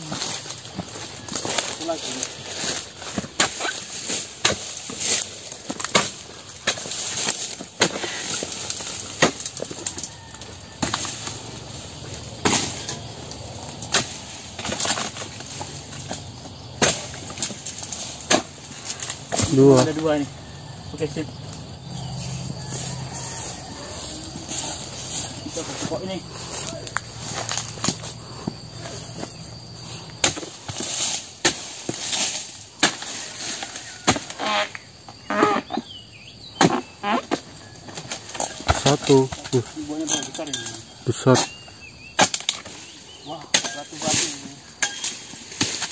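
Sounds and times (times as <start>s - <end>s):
chisel chopping palm stalks: 0.0s - 20.2s, 25.5s - 29.4s, 30.0s - 35.8s, 36.6s - 45.9s
dry rustling of fronds: 0.0s - 45.9s.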